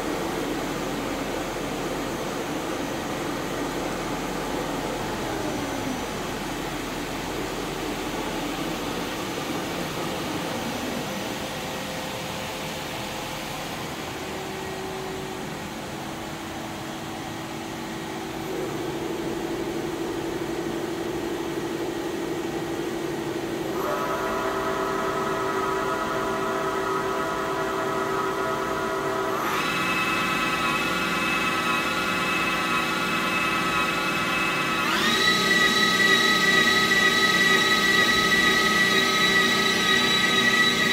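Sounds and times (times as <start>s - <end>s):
machine whine rising in pitch: 0.0s - 40.9s.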